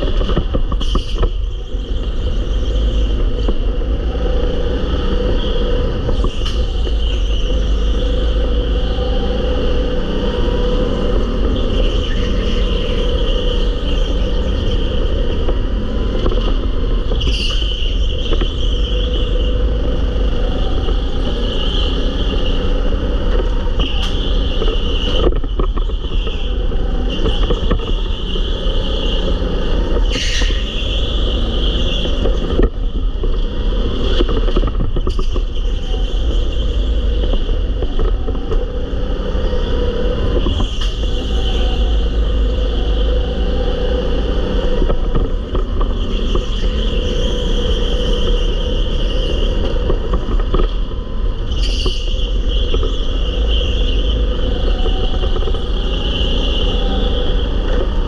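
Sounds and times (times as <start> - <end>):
go-kart engine: 0.0 - 58.0.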